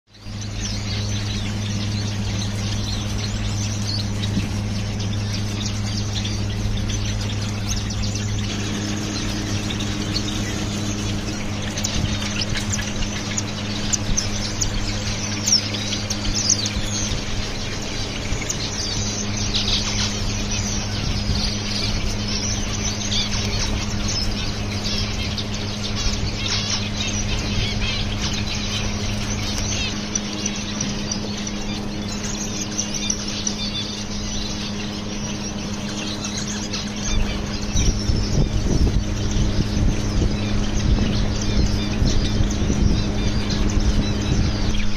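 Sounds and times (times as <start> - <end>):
finches chirping: 0.1 - 44.9
steady low hum: 0.1 - 44.9.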